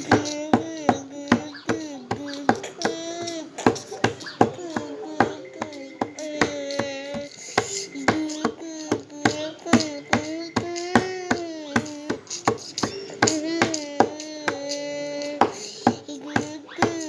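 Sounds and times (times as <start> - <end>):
wavering singing voice: 0.0 - 17.0.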